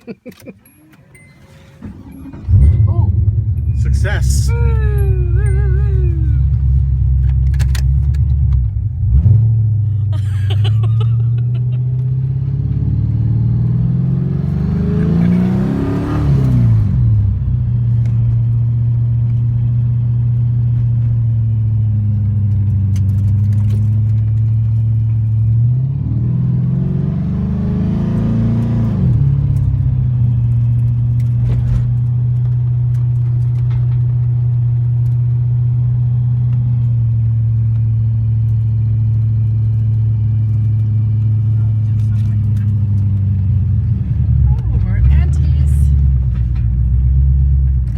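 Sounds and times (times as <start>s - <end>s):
engine idling and revving: 0.7s - 47.9s.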